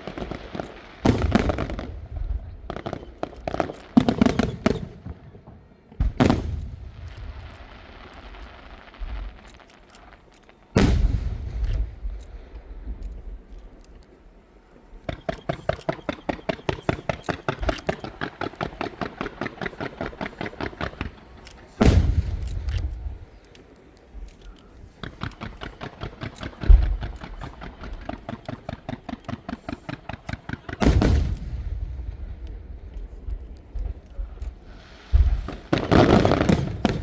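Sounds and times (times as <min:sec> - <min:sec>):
firework shells booming: 0:00.0 - 0:14.1, 0:15.0 - 0:37.0
fireworks crackling pops: 0:00.0 - 0:37.0.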